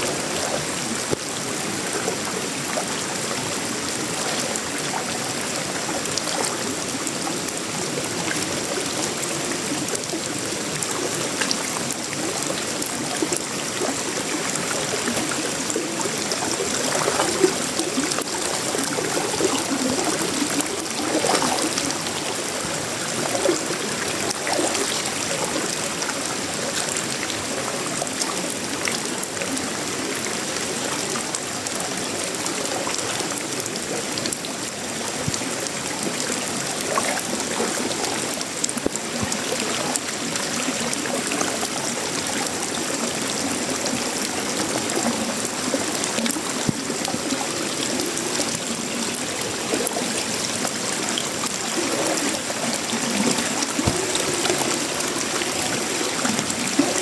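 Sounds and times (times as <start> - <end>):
heavy rain on metal roof: 0.0 - 57.0.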